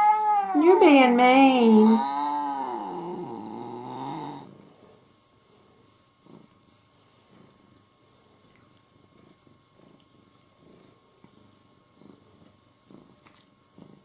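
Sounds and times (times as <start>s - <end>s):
cat purring: 1.8s - 5.1s, 5.9s - 14.0s.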